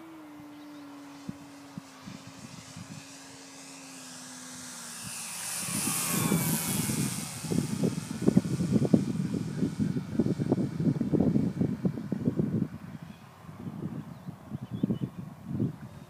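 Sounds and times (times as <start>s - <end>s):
wind buffeting microphone: 0.0s - 3.7s, 4.3s - 16.0s
loud rushing of passing airplane: 0.0s - 16.0s
model airplane motor humming: 0.0s - 16.0s.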